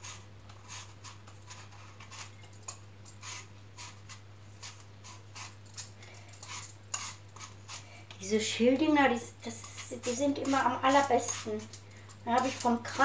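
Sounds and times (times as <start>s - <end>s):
peeler scraping apple: 0.0s - 13.0s.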